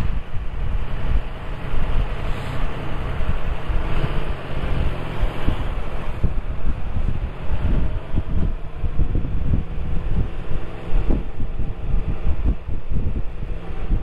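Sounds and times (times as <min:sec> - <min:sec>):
vehicle engine running: 0:00.0 - 0:14.0
wind buffeting microphone: 0:00.0 - 0:14.0.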